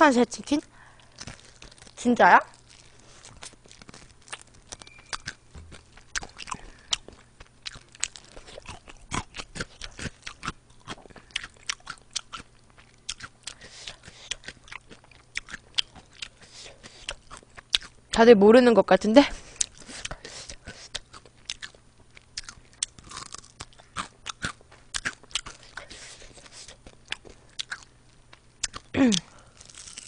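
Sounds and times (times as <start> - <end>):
crunching of crispy chicken: 1.0 - 18.0, 19.6 - 30.0.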